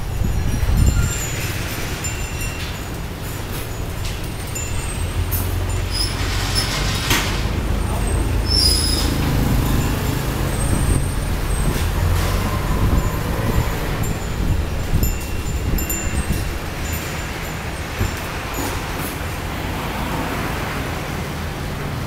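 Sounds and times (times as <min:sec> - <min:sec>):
high-pitched tinkling notes: 0:00.0 - 0:07.0, 0:07.8 - 0:19.4
storm wind buffeting microphone: 0:00.0 - 0:20.0.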